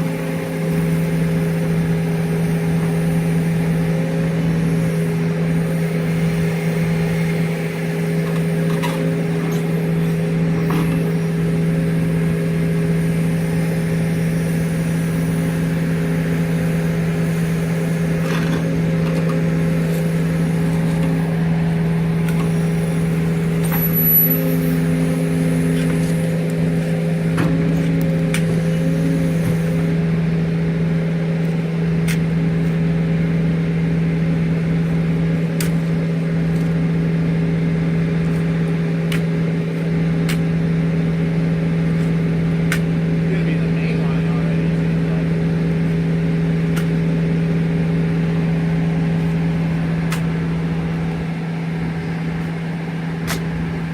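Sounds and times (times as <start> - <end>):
large engine running steadily: 0.0 - 53.9.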